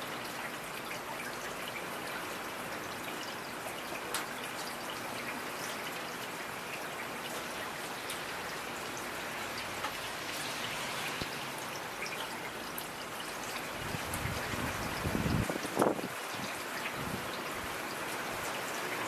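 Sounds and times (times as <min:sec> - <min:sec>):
rain drops pattering: 0:00.0 - 0:19.0.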